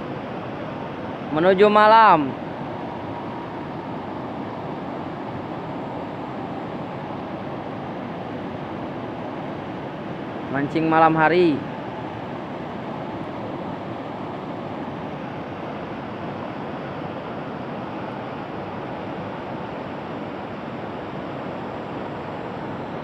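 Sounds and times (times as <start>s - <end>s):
river rapids roaring: 0.0s - 23.0s.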